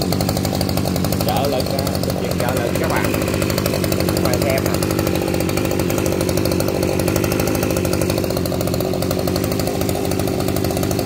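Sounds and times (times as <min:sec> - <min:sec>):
two-stroke engine idling: 0:00.0 - 0:11.0.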